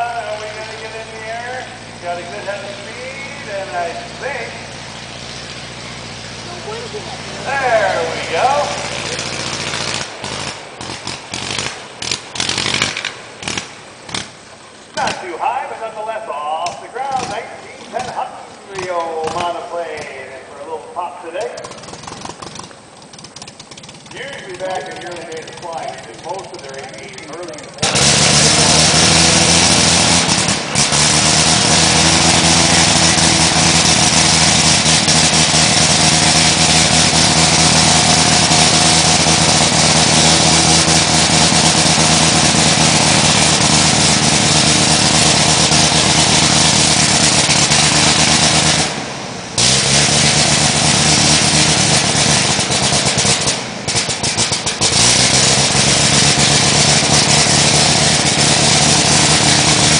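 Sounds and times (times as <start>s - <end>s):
aircraft piston engine running: 0.0s - 59.9s
hissing rush: 0.0s - 59.9s.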